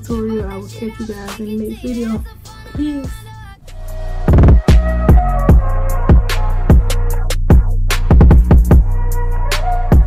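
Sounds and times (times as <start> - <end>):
music with deep bass: 0.0 - 10.0
drum beat: 0.1 - 3.3, 4.3 - 10.0.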